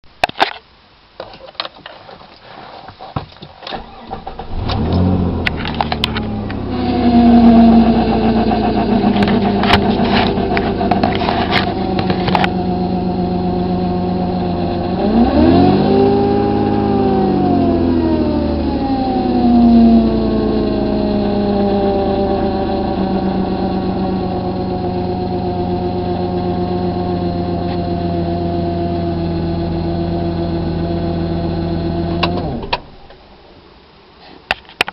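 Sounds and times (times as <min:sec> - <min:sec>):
car engine running with whine: 0:03.7 - 0:33.2.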